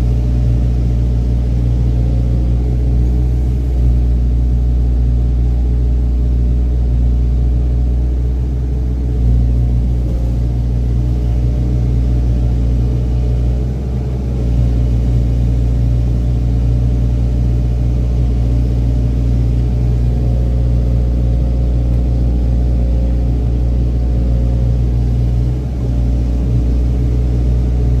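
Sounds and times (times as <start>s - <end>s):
excavator diesel engine droning: 0.0s - 28.0s.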